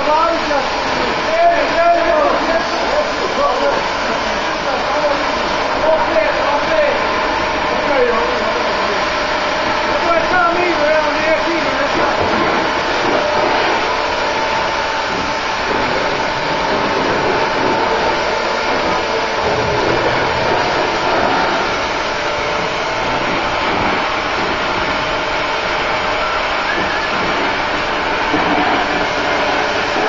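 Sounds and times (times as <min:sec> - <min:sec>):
cutting torches hissing: 0:00.0 - 0:30.0.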